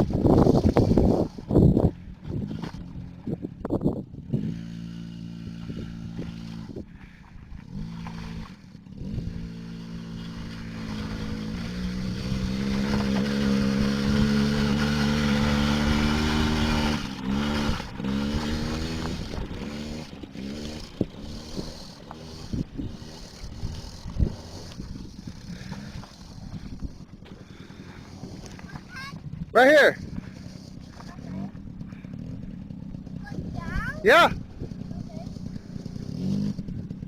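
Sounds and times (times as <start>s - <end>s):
atv engine running: 0.0s - 37.0s
atv throttle blips: 0.0s - 37.0s.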